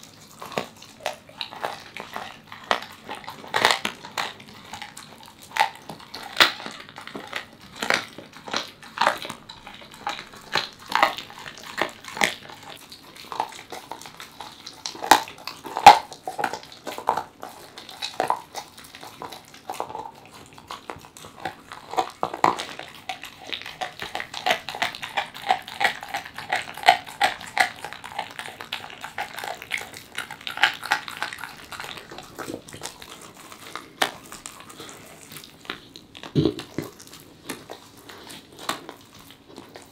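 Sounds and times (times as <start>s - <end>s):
dog chewing wet crunches: 0.0s - 39.9s.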